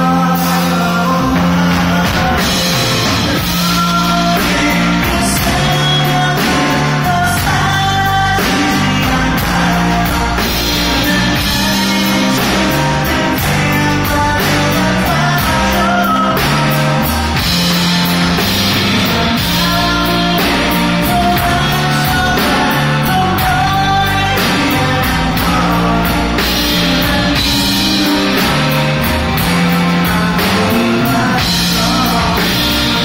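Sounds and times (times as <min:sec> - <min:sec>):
drums keeping a steady beat: 0:00.0 - 0:33.0
electric bass line: 0:00.0 - 0:33.0
electric guitar: 0:00.0 - 0:33.0
man singing: 0:00.0 - 0:33.0.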